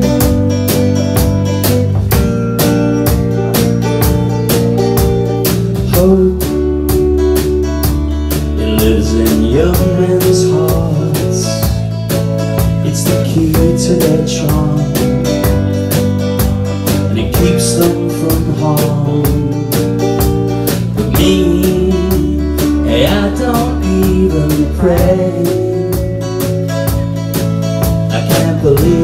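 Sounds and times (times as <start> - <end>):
live pop-rock band: 0.0 - 29.0.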